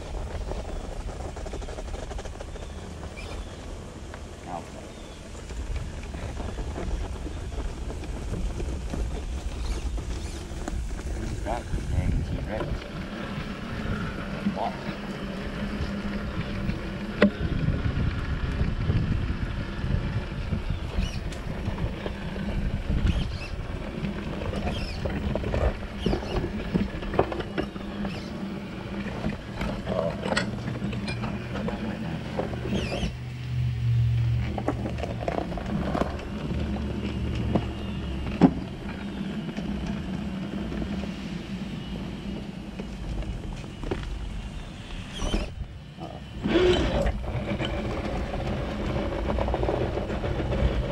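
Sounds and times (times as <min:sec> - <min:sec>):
electric motor humming: 0:09.1 - 0:50.6.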